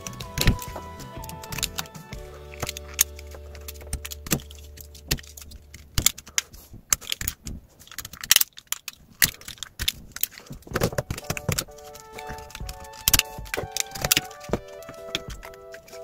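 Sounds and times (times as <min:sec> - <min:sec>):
small hard parts clicking and clattering: 0:00.0 - 0:16.0.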